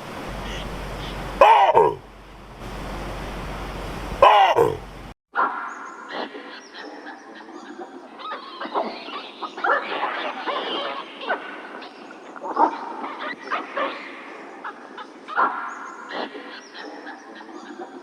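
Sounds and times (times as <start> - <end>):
monkeys calling: 0.4 - 2.0, 4.2 - 4.8, 5.4 - 18.0.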